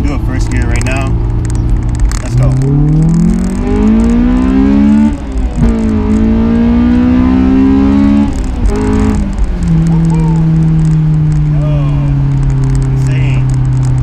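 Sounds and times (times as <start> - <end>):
car engine accelerating through gears: 0.0 - 14.0.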